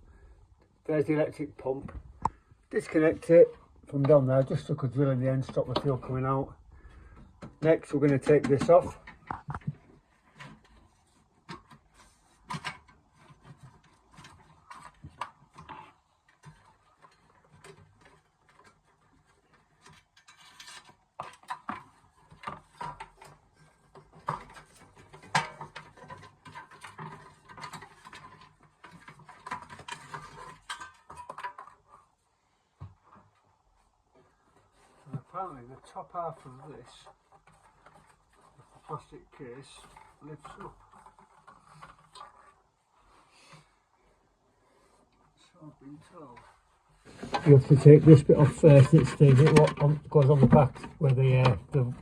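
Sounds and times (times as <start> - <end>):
hand tools clicking and scraping: 6.8 - 32.2, 32.9 - 43.8, 44.6 - 52.0.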